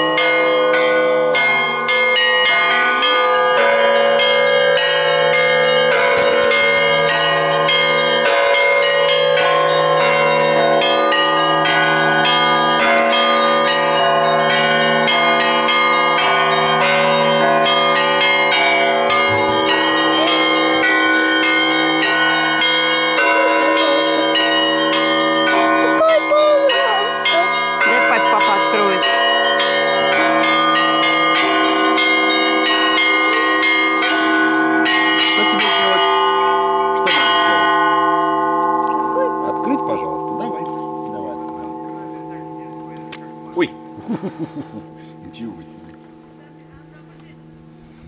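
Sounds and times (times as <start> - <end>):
low bell tolling: 0.0 - 44.1
church bells ringing: 0.0 - 47.9.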